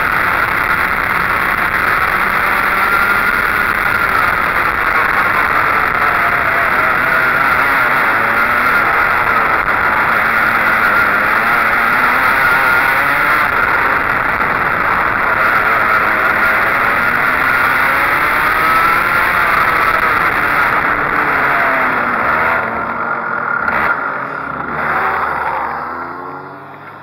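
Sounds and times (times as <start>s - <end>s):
go-kart engine racing: 0.0s - 27.0s.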